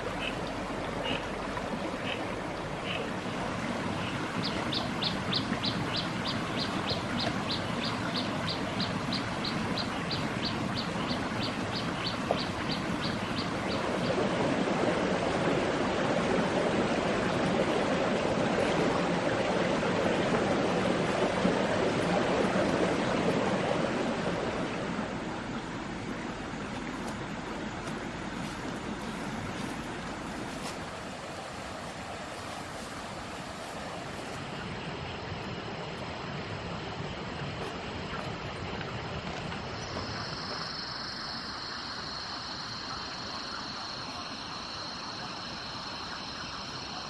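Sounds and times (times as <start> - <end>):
stream rushing over stones: 0.0 - 47.0.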